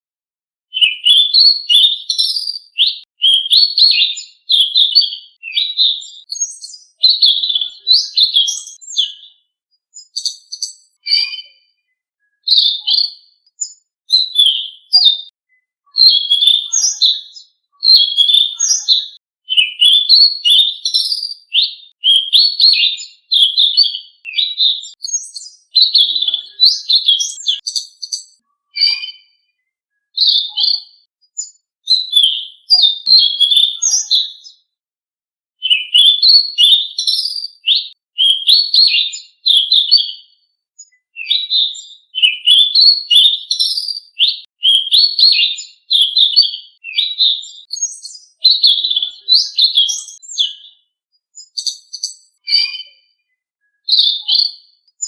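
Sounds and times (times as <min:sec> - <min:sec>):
songbird chirping and twittering: 0:00.7 - 0:34.8, 0:35.6 - 0:55.0.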